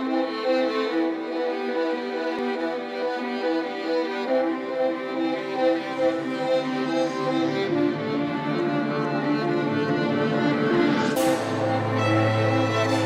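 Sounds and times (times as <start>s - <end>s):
background music melody: 0.0s - 13.0s.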